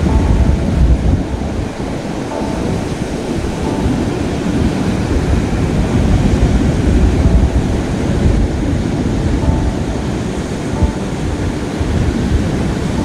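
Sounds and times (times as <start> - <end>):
sea waves on shore: 0.0 - 13.0
wind buffeting microphone: 0.0 - 13.0.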